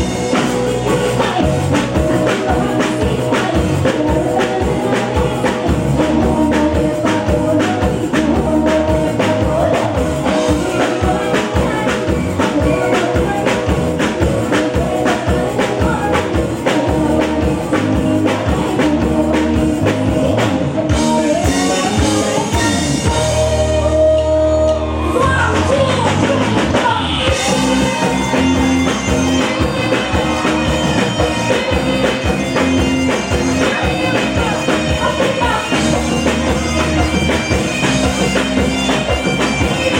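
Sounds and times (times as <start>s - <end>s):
band playing: 0.0s - 39.9s
drum kit beat: 0.0s - 39.9s
person singing: 0.0s - 39.9s.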